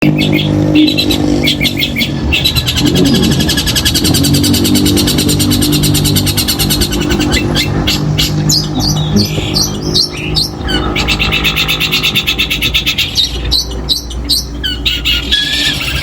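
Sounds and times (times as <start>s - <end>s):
low steady drone: 0.0s - 14.9s
bird singing rapid high notes: 0.0s - 16.0s.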